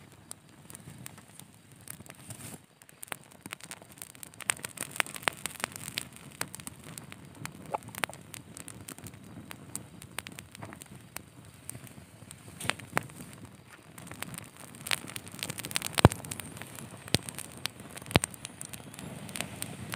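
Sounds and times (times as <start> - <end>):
pine needles crackling in fire: 0.0 - 19.9.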